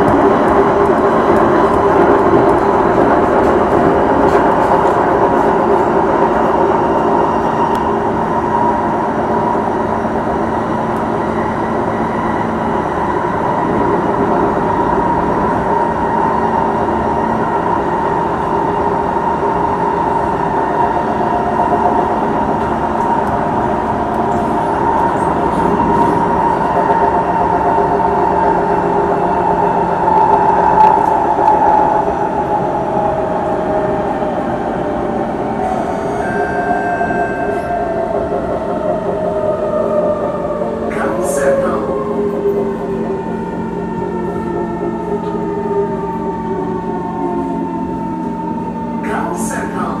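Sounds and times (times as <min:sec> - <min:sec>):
rumble of train wheels on rail: 0:00.0 - 0:50.0.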